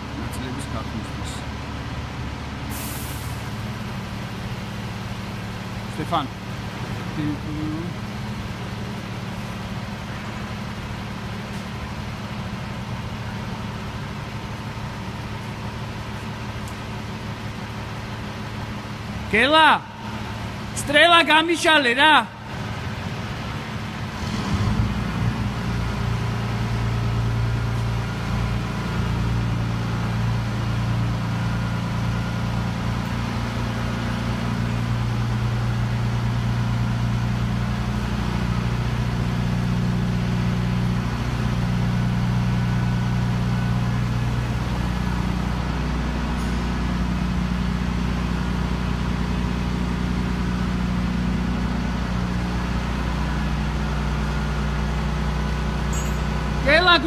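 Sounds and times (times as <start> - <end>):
crane diesel engine droning: 0.0 - 57.0.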